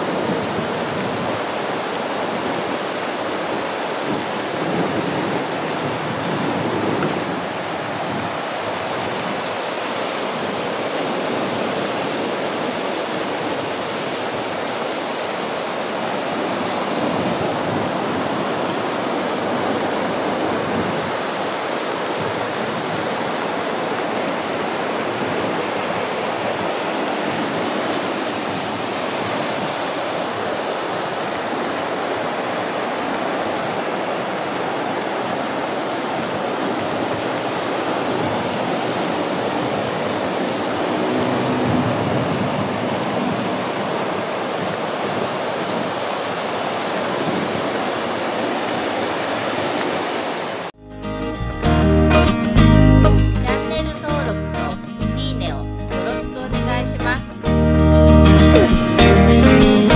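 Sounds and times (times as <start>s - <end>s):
ocean surf rushing: 0.0s - 59.9s.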